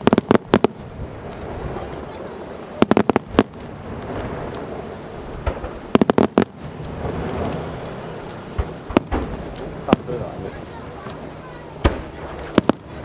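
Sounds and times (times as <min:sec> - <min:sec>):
continuous rumble: 0:00.0 - 0:13.0
fireworks bangs: 0:00.0 - 0:13.0.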